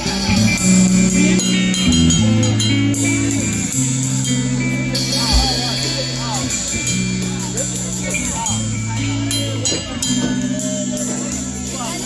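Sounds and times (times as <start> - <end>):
electric guitar playing: 0.0 - 12.0
low held bass notes: 0.0 - 12.0.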